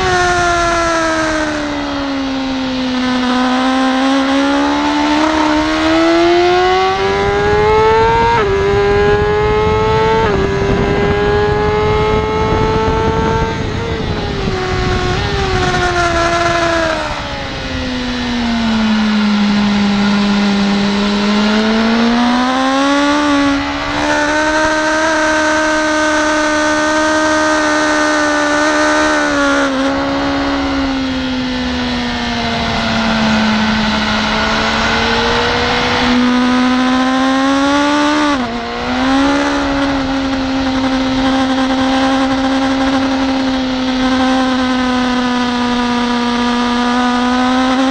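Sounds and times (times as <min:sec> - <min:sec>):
motorcycle engine at racing speed: 0:00.0 - 0:47.9.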